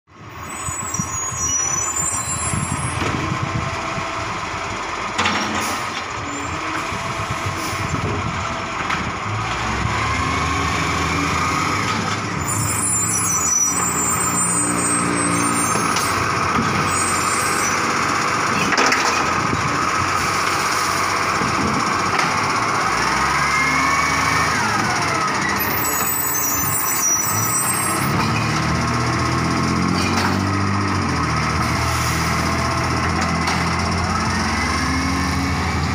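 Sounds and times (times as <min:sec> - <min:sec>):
garbage truck diesel engine: 0:00.1 - 0:35.9
brakes squealing: 0:00.2 - 0:35.9.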